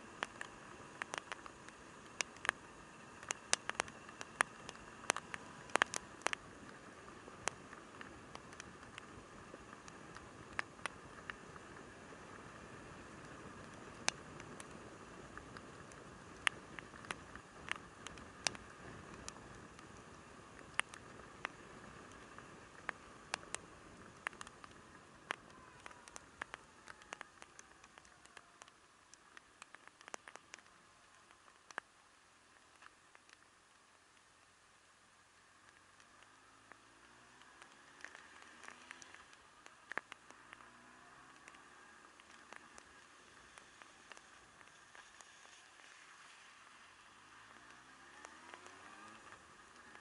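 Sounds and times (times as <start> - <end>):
sharp ticks and clicks: 0.0 - 34.6, 35.4 - 50.0
faint steady hiss: 0.0 - 50.0
raindrops tapping on camera: 0.0 - 50.0.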